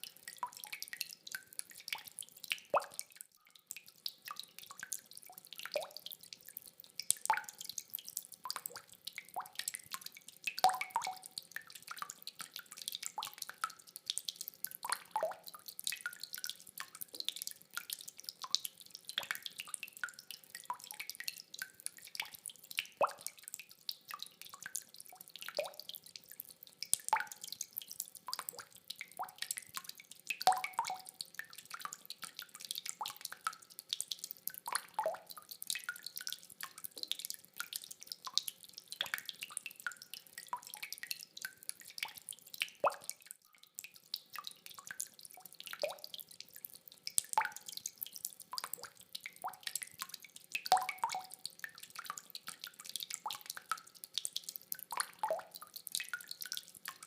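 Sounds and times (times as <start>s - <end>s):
rain water dripping: 0.0s - 57.0s.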